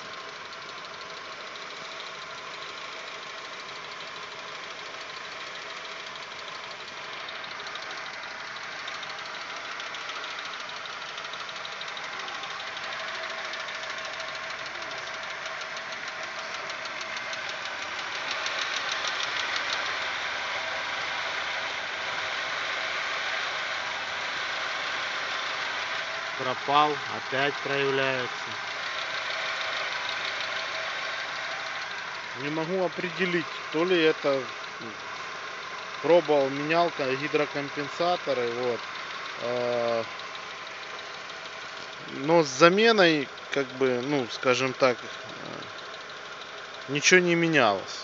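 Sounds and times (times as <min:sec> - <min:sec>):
car engine idling with ticking knock: 0:00.0 - 0:48.0.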